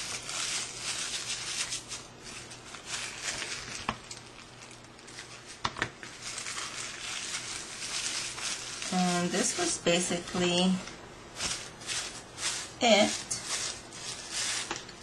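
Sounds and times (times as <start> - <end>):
tissue paper crinkling: 0.0 - 15.0.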